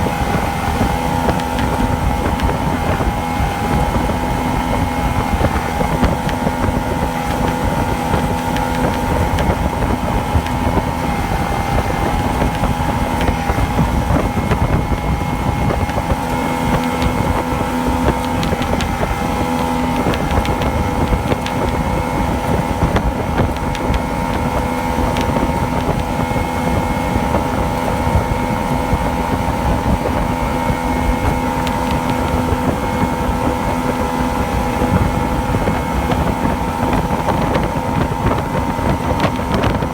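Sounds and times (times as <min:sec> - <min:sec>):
outboard motor running: 0:00.0 - 0:39.9
wind buffeting microphone: 0:00.0 - 0:39.9.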